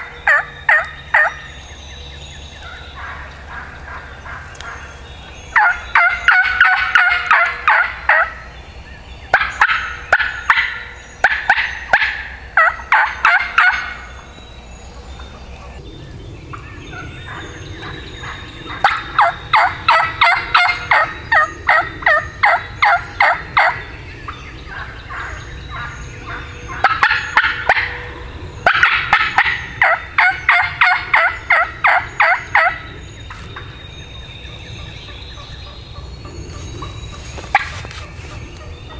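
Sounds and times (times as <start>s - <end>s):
wild turkey yelping: 0.0s - 1.5s, 2.6s - 8.5s, 9.3s - 14.3s, 16.6s - 38.9s.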